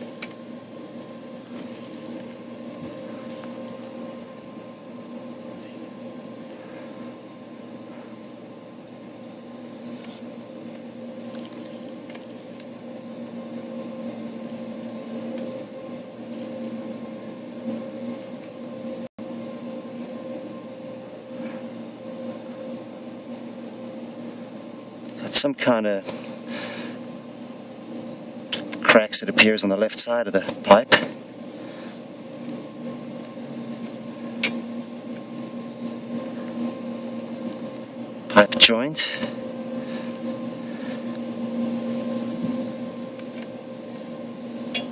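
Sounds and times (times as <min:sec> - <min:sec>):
machine hum: 0:00.0 - 0:44.9.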